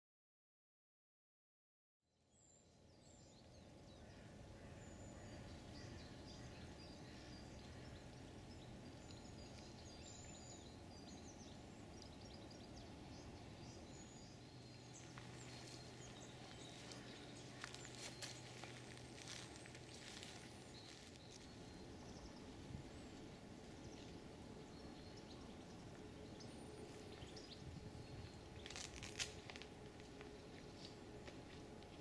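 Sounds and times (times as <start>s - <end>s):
low steady hum: 2.4s - 32.0s
small birds chirping: 2.4s - 32.0s.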